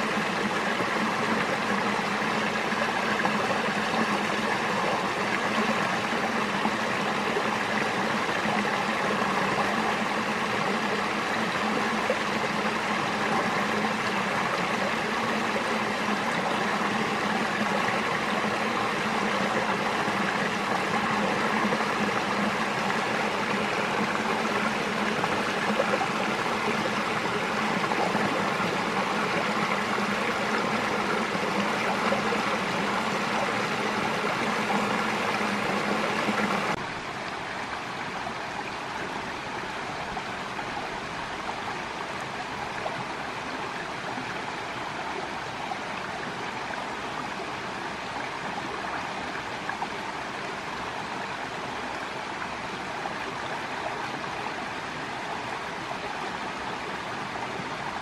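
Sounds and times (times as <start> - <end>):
brook babbling over rocks: 0.0 - 58.0.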